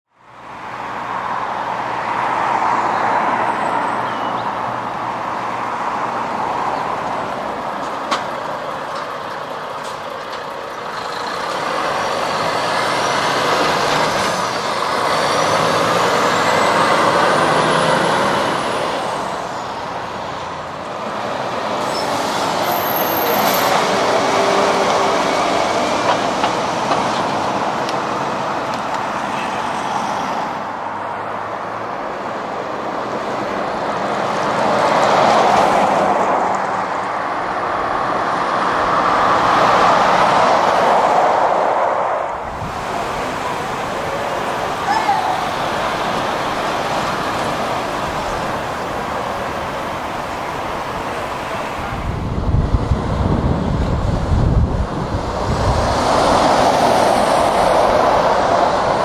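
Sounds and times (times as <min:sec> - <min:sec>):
traffic noise: 0:00.1 - 0:59.0
heavy lorries driving past: 0:00.3 - 0:59.0.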